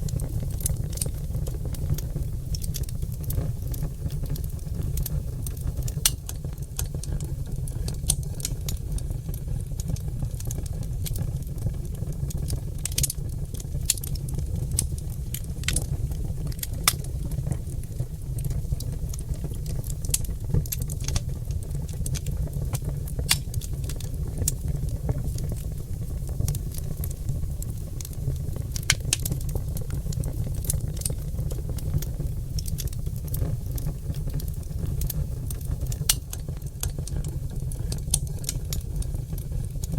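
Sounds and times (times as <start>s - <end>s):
fire rumbling: 0.0s - 39.9s
logs crackling and popping: 0.0s - 39.9s.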